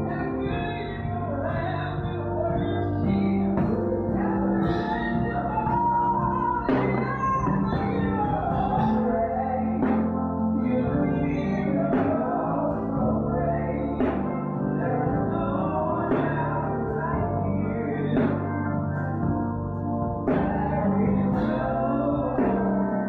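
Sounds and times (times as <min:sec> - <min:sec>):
gospel singing: 0:00.0 - 0:23.0
keyboard chords: 0:00.0 - 0:23.0.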